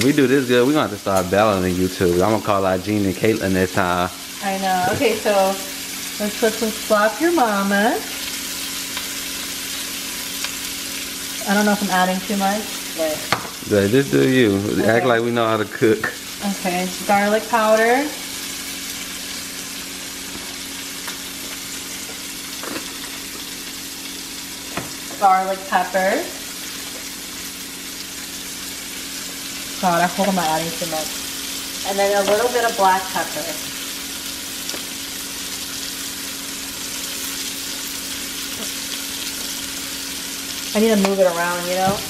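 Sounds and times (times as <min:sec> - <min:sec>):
sausage sizzling in a skillet: 0:00.0 - 0:42.0.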